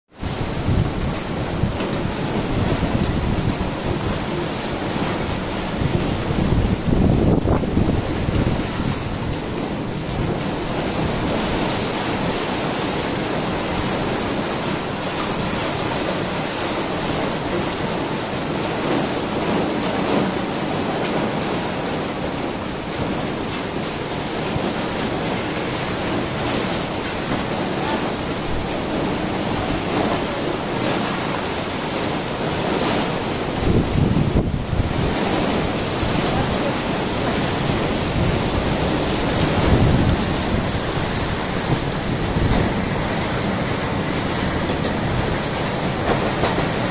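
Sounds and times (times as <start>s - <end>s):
strong wind rushing: 0.1s - 46.9s
wind buffeting microphone: 0.1s - 46.9s.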